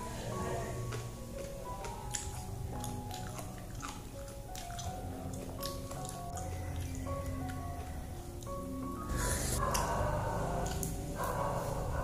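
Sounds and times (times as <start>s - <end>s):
close-up chewing: 0.0s - 11.7s
soft background music: 0.0s - 12.0s.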